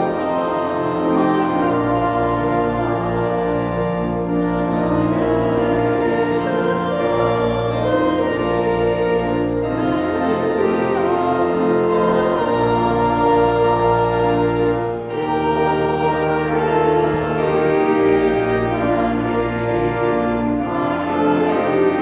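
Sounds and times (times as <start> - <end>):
organ chords: 0.0 - 22.0
voices singing: 0.0 - 22.0.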